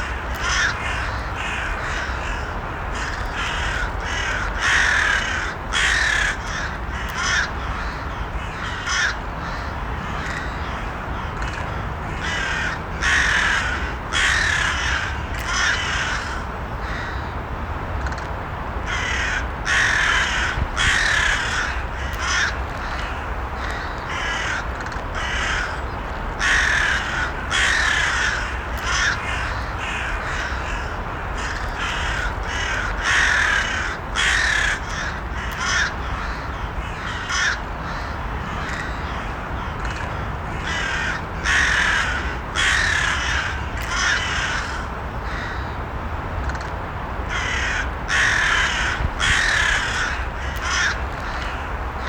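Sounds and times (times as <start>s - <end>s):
crows cawing: 0.0s - 17.3s, 18.9s - 45.8s, 47.3s - 52.0s
low background noise: 0.0s - 52.0s.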